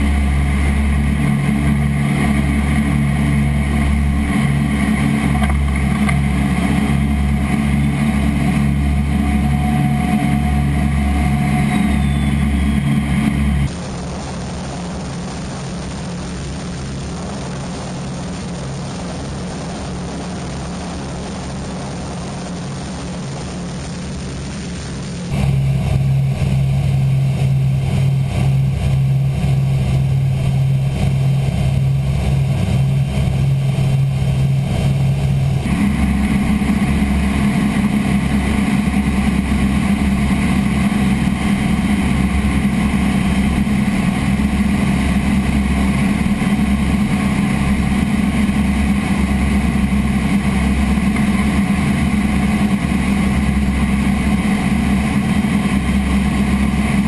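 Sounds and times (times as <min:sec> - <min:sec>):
propeller aircraft engines droning: 0:00.0 - 0:57.0.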